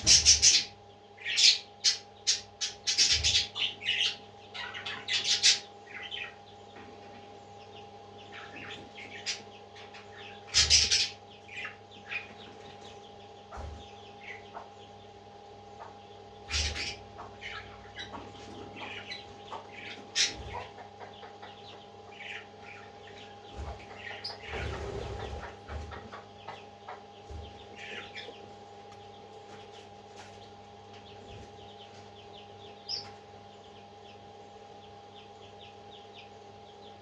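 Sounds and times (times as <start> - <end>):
parrot chicks chirping and begging: 0.0 - 37.0.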